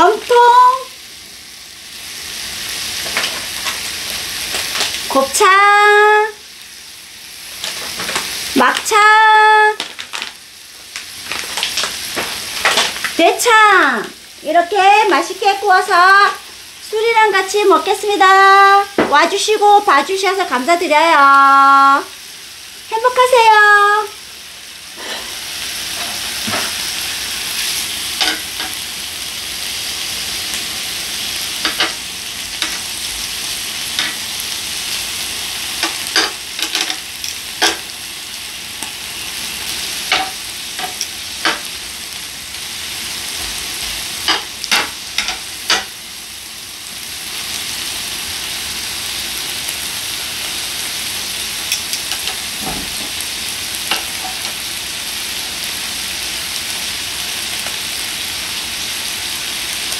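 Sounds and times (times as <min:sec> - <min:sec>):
meat sizzling on a griddle: 0:00.0 - 0:59.9.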